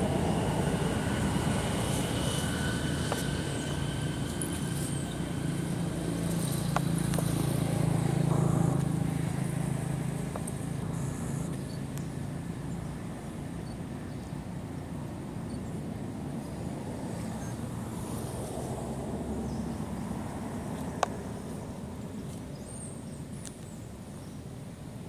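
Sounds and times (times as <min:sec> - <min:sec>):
passing vehicle engine hum: 0:00.0 - 0:23.8.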